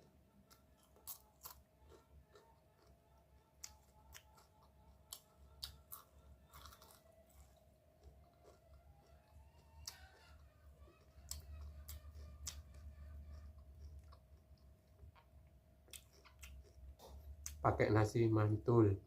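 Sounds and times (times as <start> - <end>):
crunchy chewing: 0.0 - 17.6.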